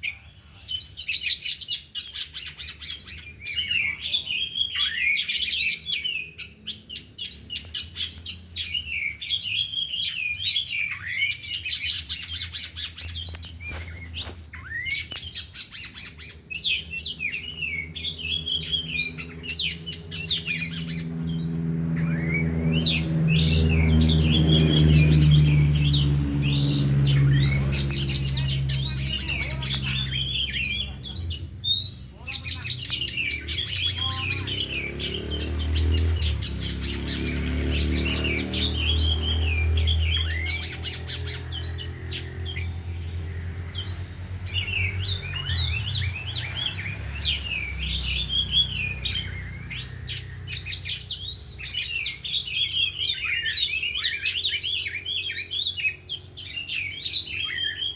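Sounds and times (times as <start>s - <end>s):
magpie-robins singing: 0.0s - 57.9s.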